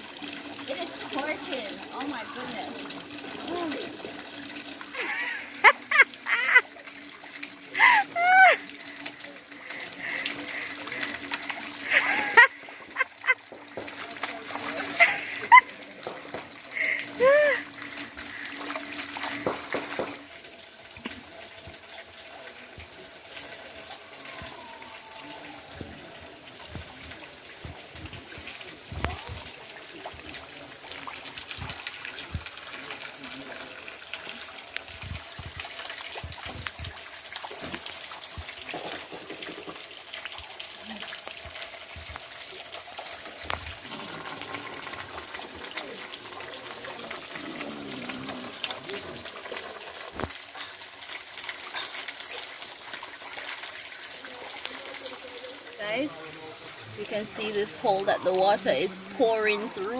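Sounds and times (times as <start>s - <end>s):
spring water pouring and splashing: 0.0s - 59.9s
small knocks and drips: 8.6s - 57.4s.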